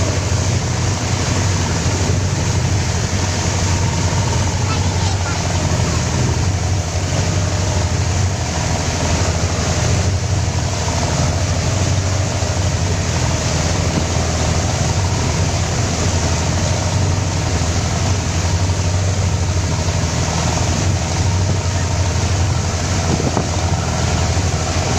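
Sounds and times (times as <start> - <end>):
boat diesel engine humming: 0.0 - 24.9.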